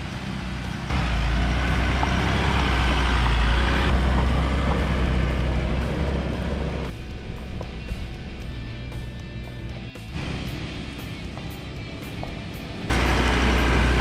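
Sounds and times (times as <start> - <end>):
vehicle engine rumble and road noise: 0.0 - 14.0.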